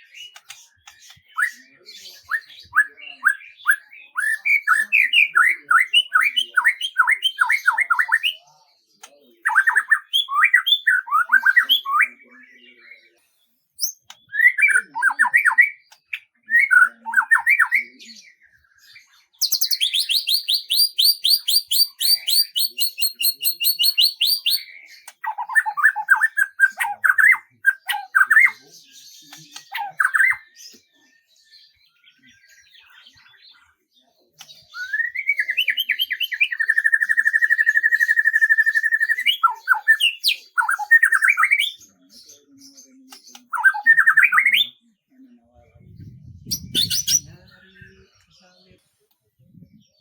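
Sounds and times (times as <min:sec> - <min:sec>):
songbird singing: 0:00.0 - 0:50.0.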